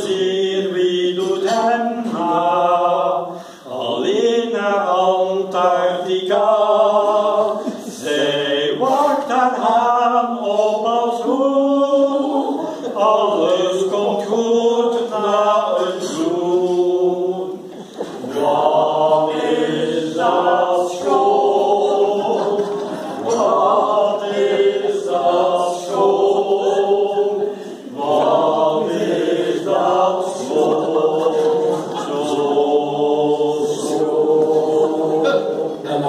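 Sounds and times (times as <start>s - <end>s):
group of people singing: 0.0s - 36.0s.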